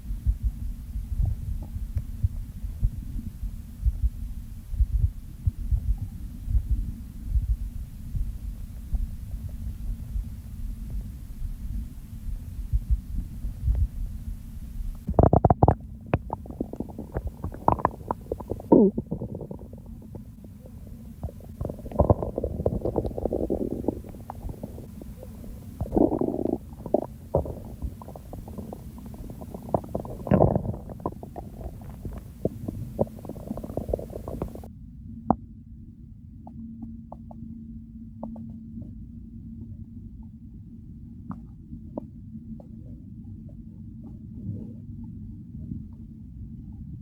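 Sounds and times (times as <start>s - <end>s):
stomach gurgling and rumbling: 0.0s - 34.7s, 38.1s - 47.0s.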